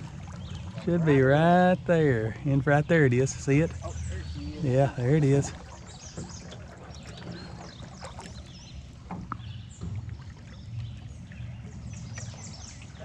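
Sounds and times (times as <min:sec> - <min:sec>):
low steady rumble: 0:00.0 - 0:13.0
water sounds: 0:00.0 - 0:13.0.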